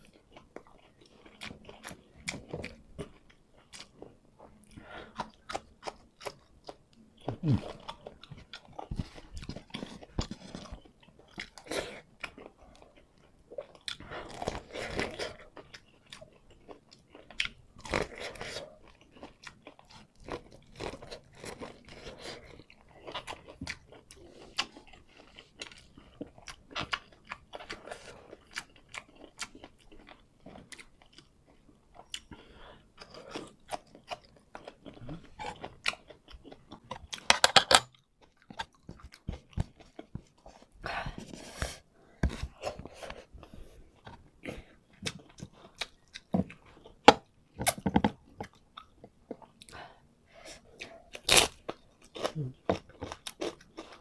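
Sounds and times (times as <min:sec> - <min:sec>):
person chewing and crunching food: 0:00.0 - 0:54.0.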